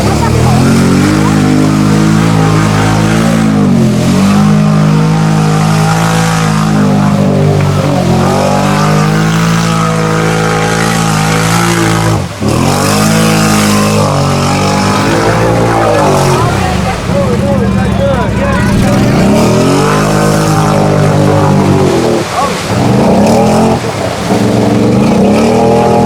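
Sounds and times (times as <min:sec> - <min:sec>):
atv engine revving hard: 0:00.0 - 0:26.0.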